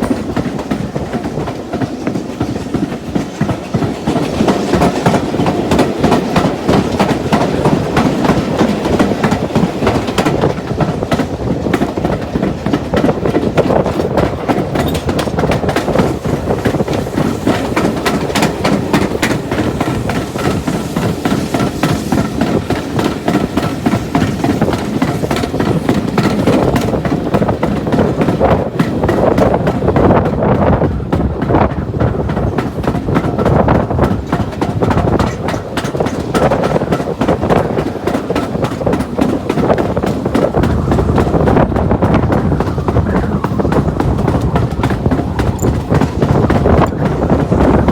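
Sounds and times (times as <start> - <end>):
train rumbling: 0.0 - 47.9
wheels clicking over rail joints: 0.0 - 47.9.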